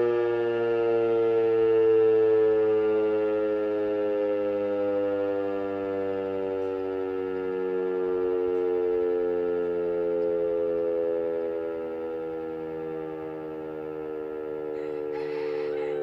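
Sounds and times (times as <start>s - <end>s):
distant motor siren howl: 0.0s - 16.0s.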